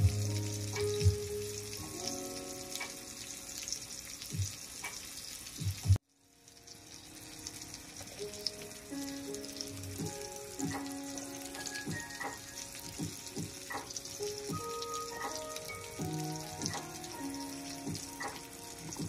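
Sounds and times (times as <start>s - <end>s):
food sizzling in a pan: 0.0s - 19.0s
soft background music: 0.0s - 19.0s.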